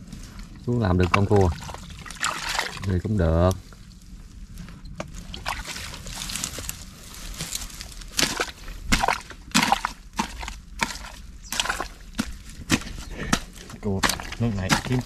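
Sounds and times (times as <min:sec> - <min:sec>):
muddy water sloshing and splashing: 0:00.6 - 0:03.6, 0:05.1 - 0:15.0.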